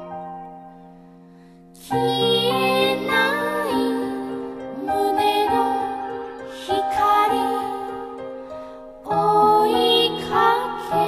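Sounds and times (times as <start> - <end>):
slow gentle lullaby music: 0.0 - 11.0.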